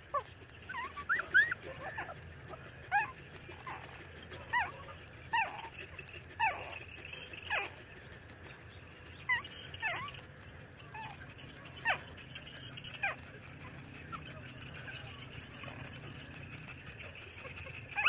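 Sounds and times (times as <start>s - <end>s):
puppies whimpering: 0.0s - 18.0s.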